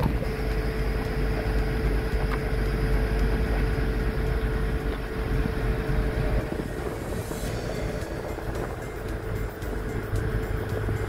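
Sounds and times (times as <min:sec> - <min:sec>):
diesel machinery rumbling: 0:00.0 - 0:11.0
humming tone: 0:00.0 - 0:11.0.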